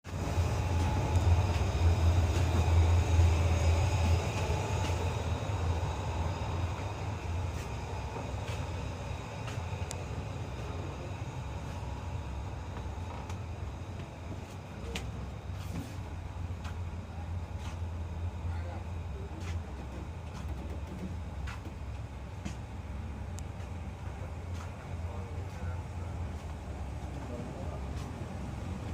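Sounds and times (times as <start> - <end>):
moving vehicle rumble: 0.0 - 28.9.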